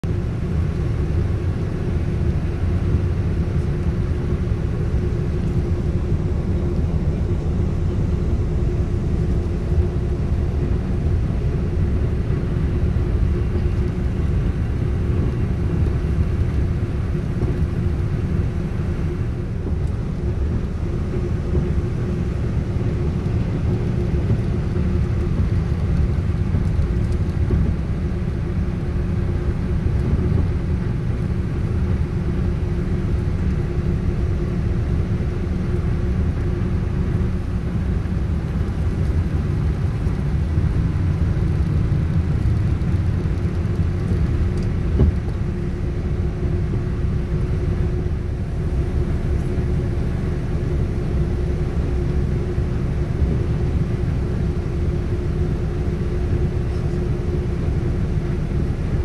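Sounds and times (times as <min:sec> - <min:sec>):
low machinery rumble and hum: 0:00.0 - 0:59.0.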